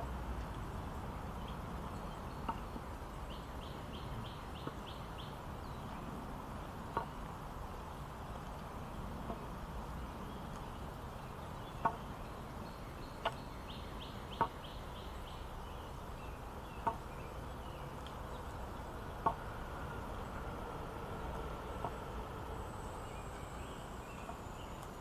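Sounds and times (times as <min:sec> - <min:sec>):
background hiss: 0:00.0 - 0:25.0.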